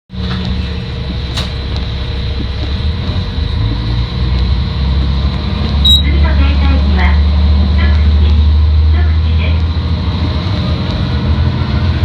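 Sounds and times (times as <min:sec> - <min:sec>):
railcar engine drone: 0:00.1 - 0:12.0.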